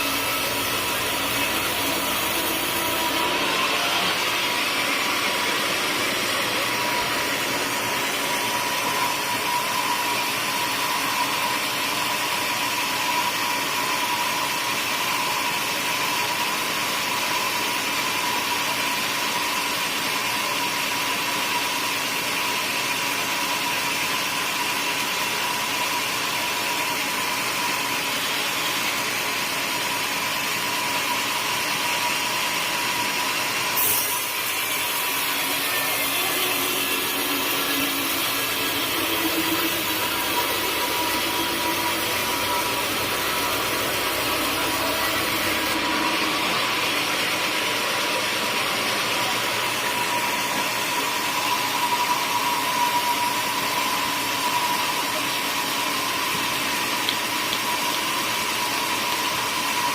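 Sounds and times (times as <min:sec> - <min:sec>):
sawmill machinery whining: 0:00.0 - 0:16.4, 0:24.3 - 0:59.9.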